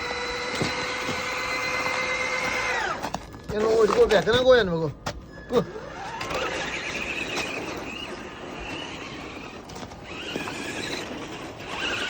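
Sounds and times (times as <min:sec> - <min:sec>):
electric motor whining: 0:00.0 - 0:04.2, 0:05.3 - 0:12.0
tyres grinding in snow: 0:00.0 - 0:12.0.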